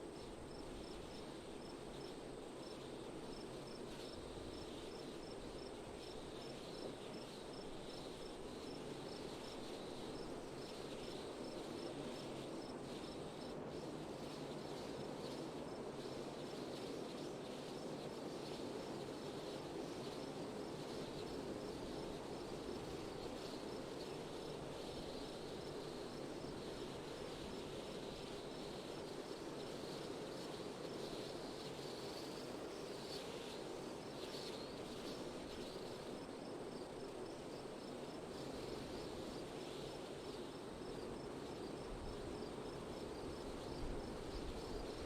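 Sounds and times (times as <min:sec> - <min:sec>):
wind: 0:00.0 - 0:45.0
crickets chirping: 0:00.1 - 0:18.4, 0:19.3 - 0:45.0.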